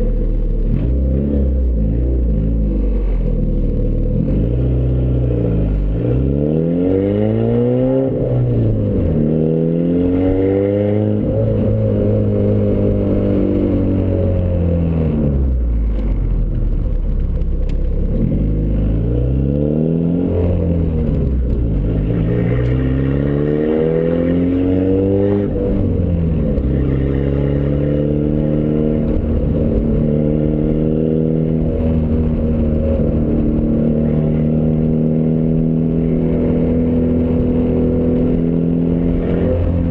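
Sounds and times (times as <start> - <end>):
car engine exhaust accelerating: 0.0 - 39.9.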